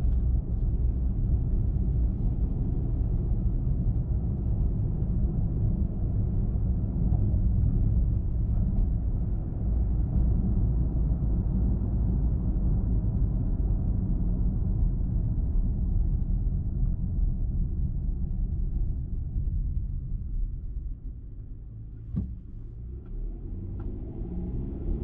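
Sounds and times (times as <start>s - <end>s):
car tyre and engine rumble: 0.0s - 25.0s.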